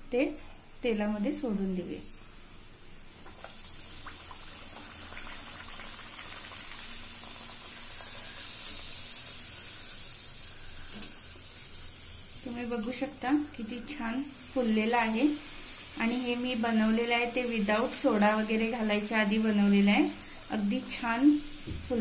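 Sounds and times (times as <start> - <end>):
dough sizzling in hot oil: 2.2 - 22.0.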